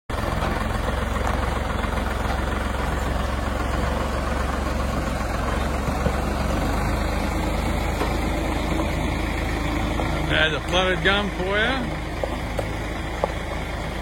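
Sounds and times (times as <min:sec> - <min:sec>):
vehicle engine running: 0:00.1 - 0:14.0.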